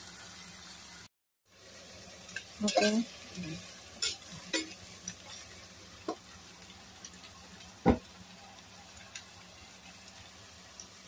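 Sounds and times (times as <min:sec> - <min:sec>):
broccoli sizzling in a pot: 0:00.0 - 0:11.0.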